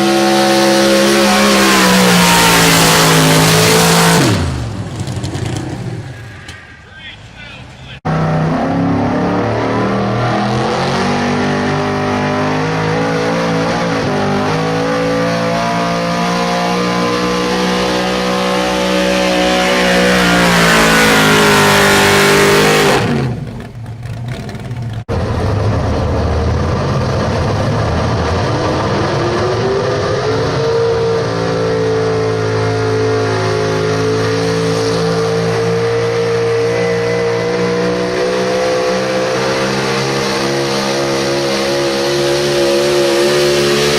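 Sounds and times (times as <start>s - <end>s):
truck engine at high revs: 0.0s - 43.9s.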